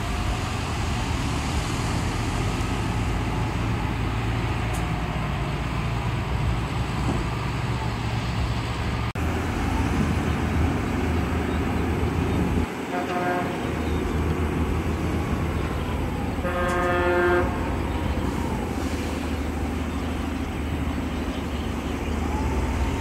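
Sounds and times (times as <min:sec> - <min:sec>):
heavy diesel truck engine rumbling: 0:00.0 - 0:23.0.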